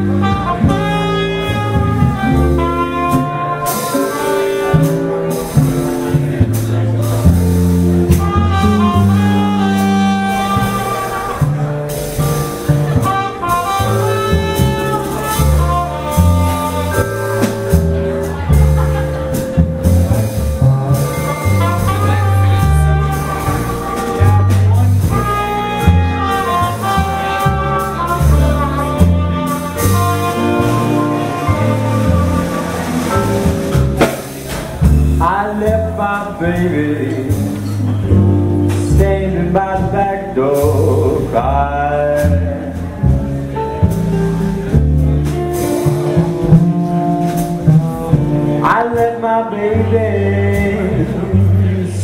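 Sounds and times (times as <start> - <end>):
swing band playing: 0.0 - 52.0.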